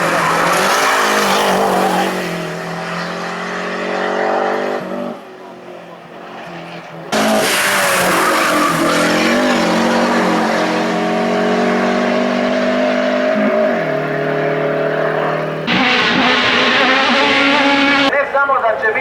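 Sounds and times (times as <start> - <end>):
race car engine at high revs: 0.0 - 18.1.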